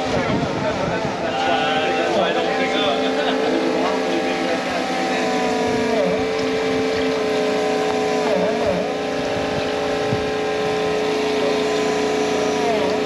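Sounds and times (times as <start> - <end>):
motor running: 0.0 - 13.0.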